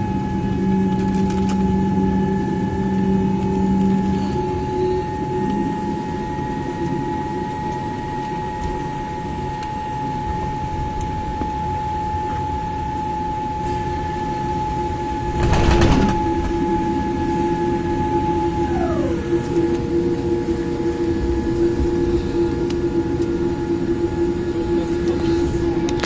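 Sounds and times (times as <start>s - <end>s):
aircraft systems whine: 0.0s - 26.0s.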